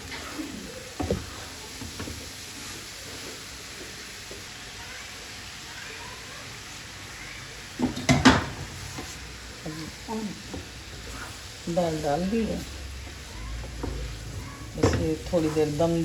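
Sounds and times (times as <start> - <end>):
masala sizzling in a pot: 0.0 - 16.0.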